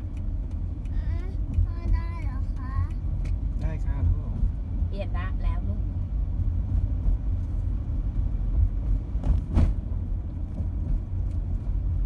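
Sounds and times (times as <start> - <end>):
car interior driving rumble: 0.0 - 12.0.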